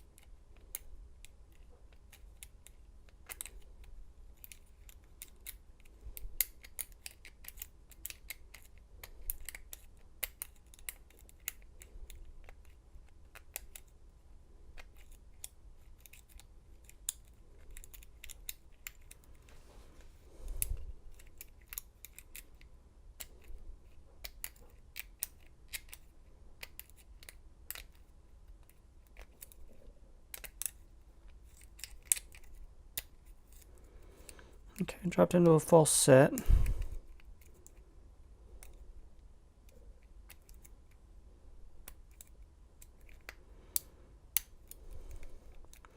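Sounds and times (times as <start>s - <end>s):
lock pick clicking and scraping: 0.0s - 14.0s, 14.7s - 19.5s, 20.6s - 34.9s, 39.6s - 41.0s, 41.8s - 45.9s.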